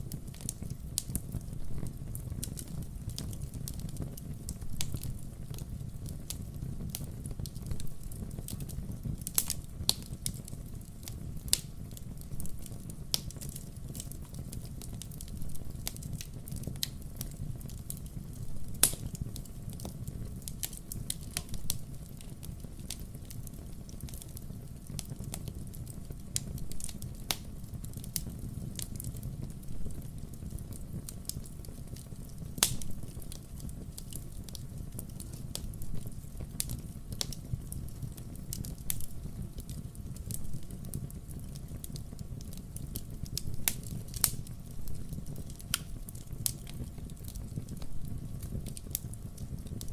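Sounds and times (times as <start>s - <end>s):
firewood crackling and popping: 0.0s - 49.9s.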